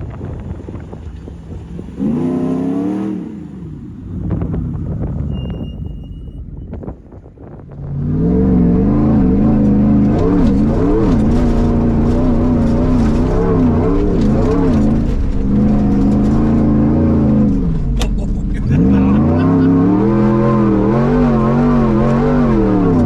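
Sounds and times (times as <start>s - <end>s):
race truck engine revving: 0.0s - 6.6s, 7.7s - 23.0s.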